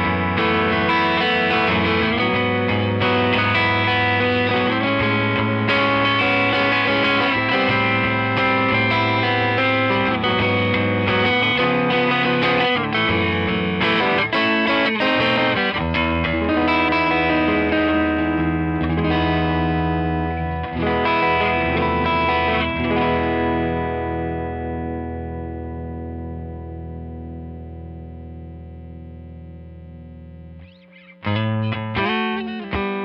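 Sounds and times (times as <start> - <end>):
overdriven electric guitar chords: 0.0 - 33.0.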